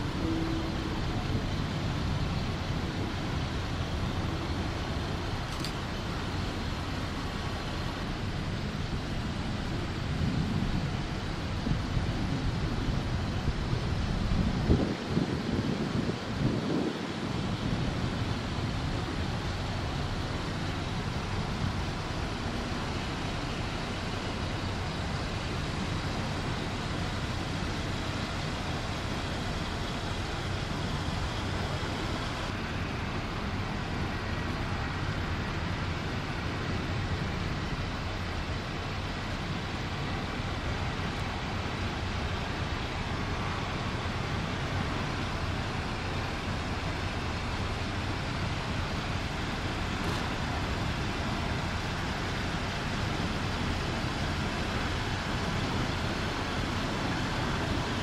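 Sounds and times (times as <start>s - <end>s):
traffic and aircraft rumble: 0.0s - 58.0s.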